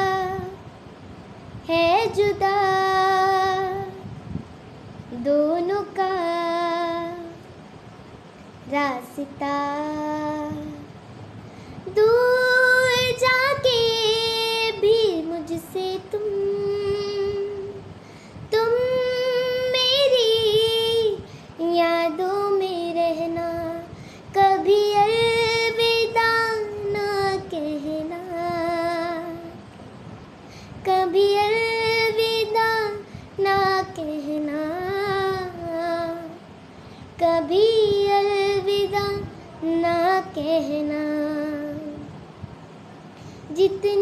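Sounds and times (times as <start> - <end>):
girl singing unaccompanied: 0.0 - 44.0.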